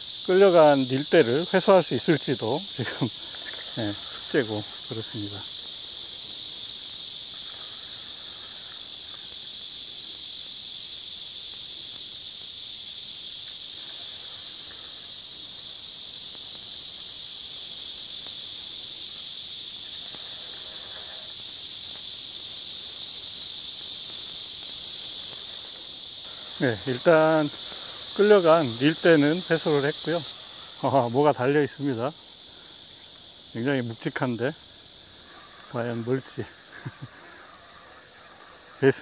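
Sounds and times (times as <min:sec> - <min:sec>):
insects buzzing: 0:00.0 - 0:39.0.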